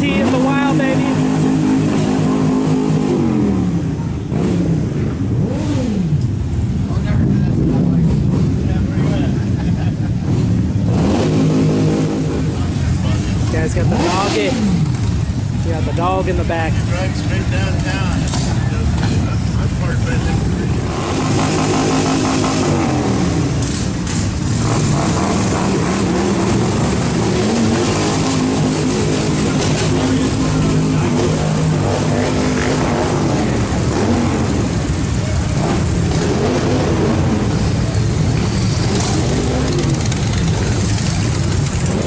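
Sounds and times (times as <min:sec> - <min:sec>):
motorcycles revving and passing: 0:00.0 - 0:42.0.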